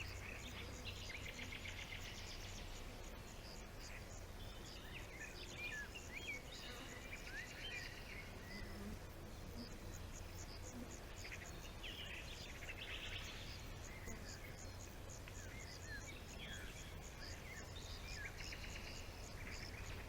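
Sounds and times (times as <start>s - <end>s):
birds chirping: 0.0s - 20.0s
insects trilling: 0.0s - 20.0s.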